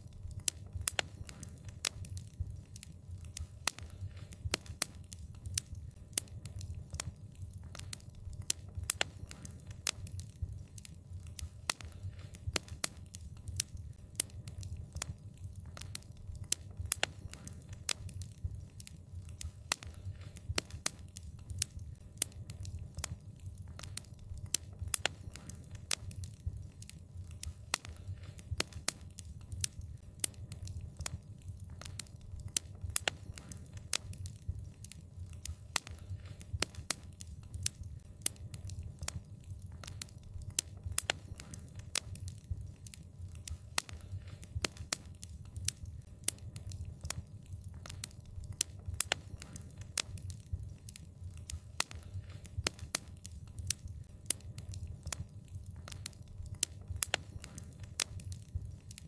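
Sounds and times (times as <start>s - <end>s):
low rumble of burning fire: 0.0s - 59.0s
wood fire crackling and popping: 0.0s - 59.0s.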